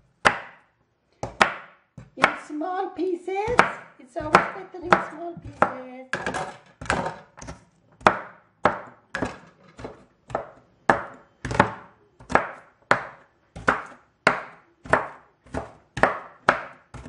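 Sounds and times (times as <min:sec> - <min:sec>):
knife chopping on cutting board: 0:00.2 - 0:00.6, 0:01.2 - 0:02.4, 0:03.4 - 0:17.0.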